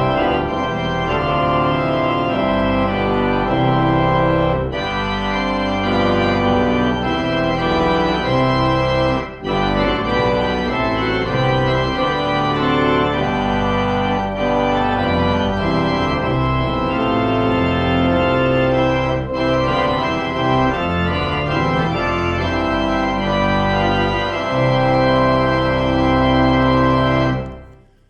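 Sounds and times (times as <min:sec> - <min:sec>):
organ playing sustained chords: 0:00.0 - 0:28.0.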